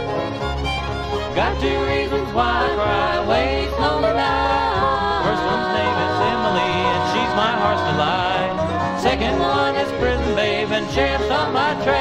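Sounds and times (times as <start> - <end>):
acoustic guitar: 0.0 - 12.0
banjo: 0.0 - 12.0
sliding lead melody: 0.0 - 12.0
upright bass: 0.0 - 12.0.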